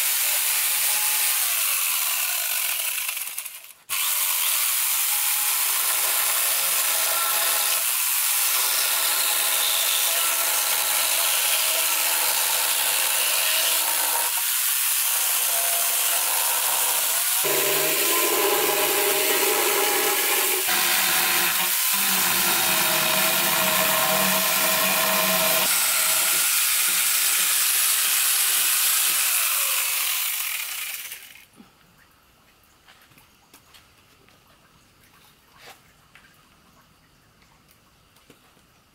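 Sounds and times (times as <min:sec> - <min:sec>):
angle grinder cutting wood: 0:00.0 - 0:31.4.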